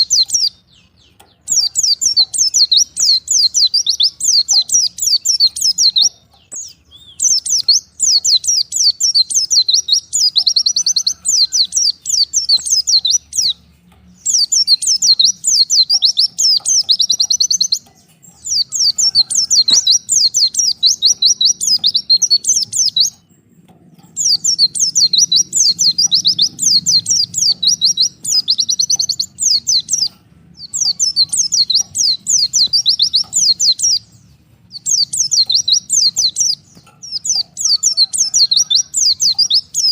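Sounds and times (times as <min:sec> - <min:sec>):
bird singing fast high chatter: 0:00.0 - 0:39.9.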